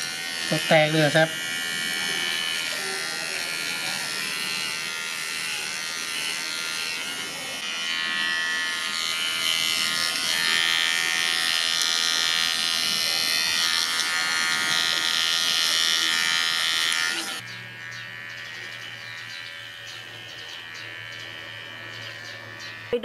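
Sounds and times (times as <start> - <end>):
electric pet clipper buzzing: 0.0 - 23.0.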